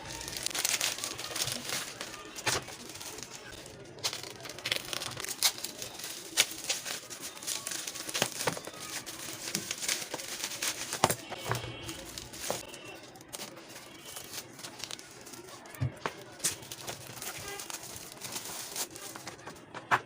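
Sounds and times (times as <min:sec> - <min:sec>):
plastic packaging crinkling: 0:00.0 - 0:19.6.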